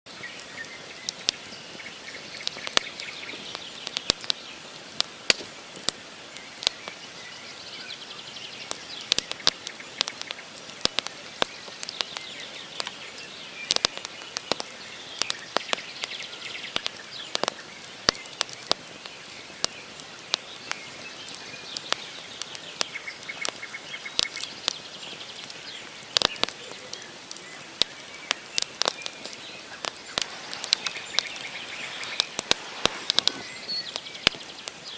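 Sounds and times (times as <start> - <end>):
campfire logs crackling and popping: 0.1 - 34.9
fire hissing: 0.2 - 34.9
birds calling: 6.3 - 34.9.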